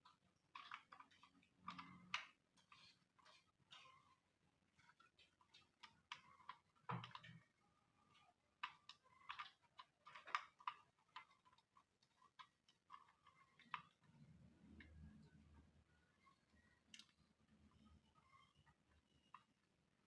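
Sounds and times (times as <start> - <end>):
faint clicks and taps: 0.0 - 20.0.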